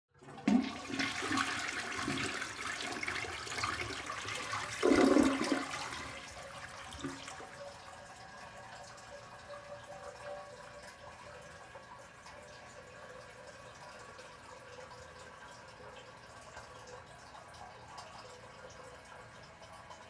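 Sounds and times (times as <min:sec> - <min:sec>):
toilet flushing: 0:00.1 - 0:20.0
water trickling: 0:00.5 - 0:20.0.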